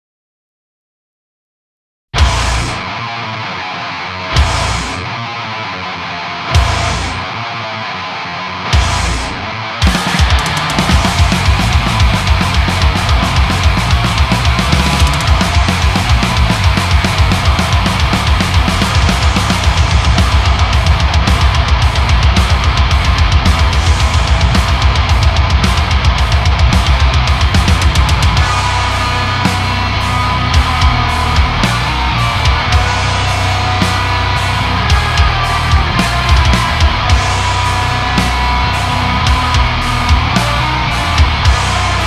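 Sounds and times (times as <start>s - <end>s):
drum kit: 2.2s - 2.9s, 4.4s - 5.0s, 6.6s - 7.2s, 8.8s - 42.0s
distorted electric guitar riff: 2.2s - 42.0s.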